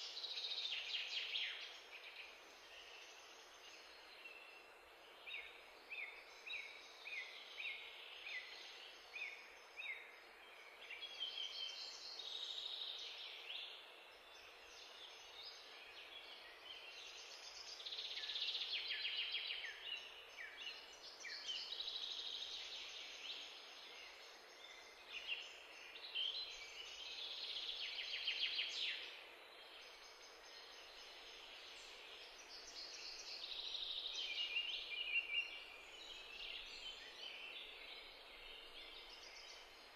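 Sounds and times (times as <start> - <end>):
faint steady hiss: 0.0 - 39.9
songbirds chirping and singing: 0.0 - 39.9.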